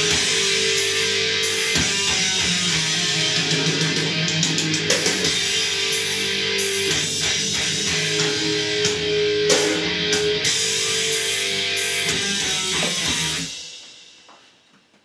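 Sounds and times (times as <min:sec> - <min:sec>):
rock song with electric guitar: 0:00.0 - 0:13.6.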